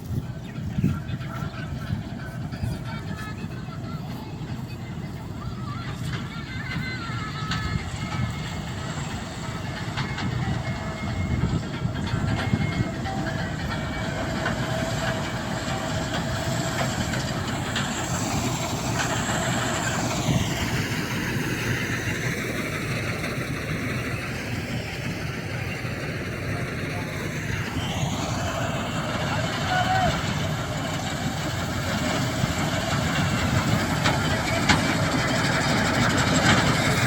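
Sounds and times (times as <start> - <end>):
harvesting machinery running: 0.0 - 37.0.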